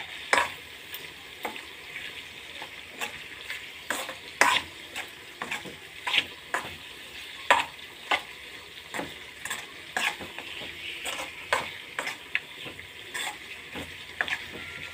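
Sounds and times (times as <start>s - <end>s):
food sizzling in a pan: 0.0s - 14.9s
metal spoon scraping a pan: 0.0s - 14.9s.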